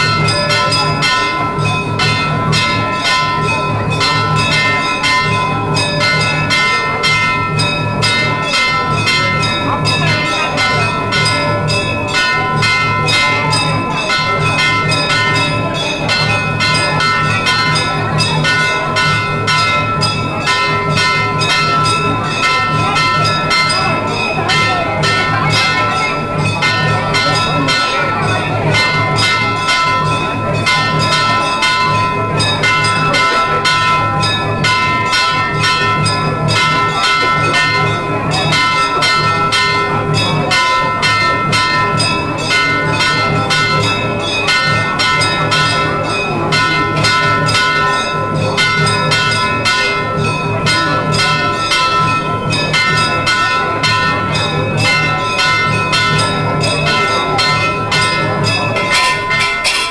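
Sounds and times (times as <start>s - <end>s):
temple bells ringing rapidly: 0.0s - 59.9s.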